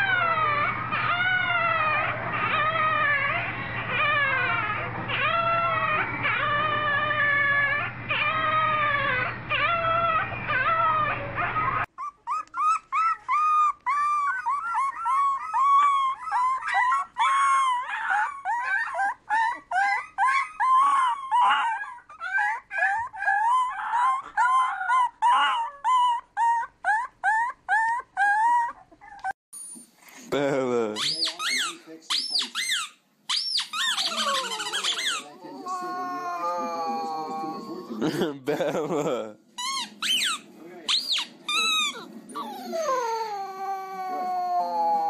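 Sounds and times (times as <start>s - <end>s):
puppies howling: 0.0s - 29.4s, 33.3s - 38.3s, 40.9s - 45.0s
puppy yelping: 0.0s - 29.9s, 31.0s - 38.2s, 39.6s - 45.0s.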